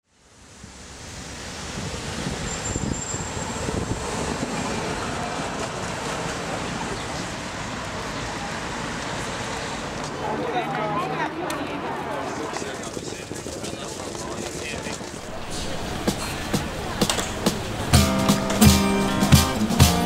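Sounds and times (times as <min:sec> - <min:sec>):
city street noise: 0:00.0 - 0:20.0
tram running past: 0:00.3 - 0:20.0.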